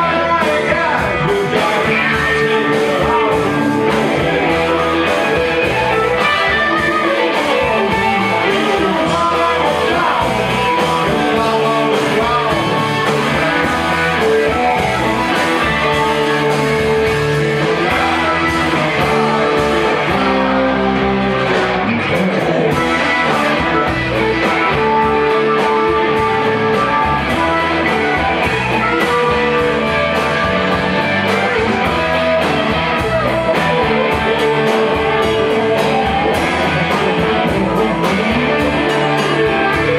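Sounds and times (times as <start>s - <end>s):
drums: 0.0s - 39.9s
electric guitars: 0.0s - 39.9s
keyboard: 0.0s - 39.9s.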